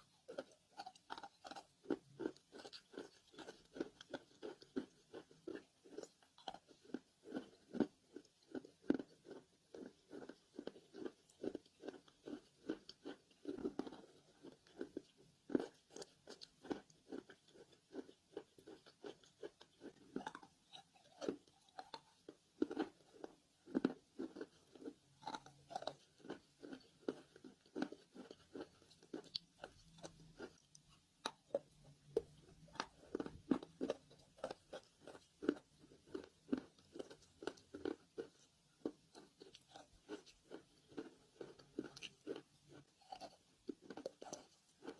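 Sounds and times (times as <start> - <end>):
chewing crisp crunches: 0.0 - 44.9.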